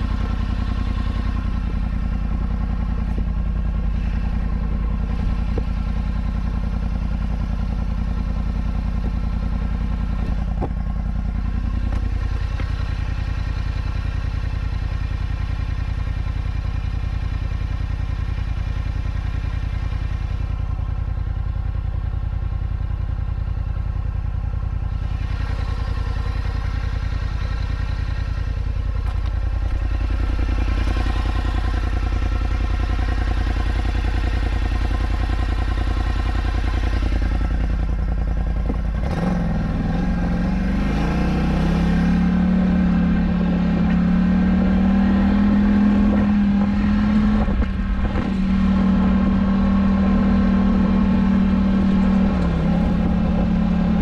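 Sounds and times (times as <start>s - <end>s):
atv engine idling and revving: 0.0s - 54.0s.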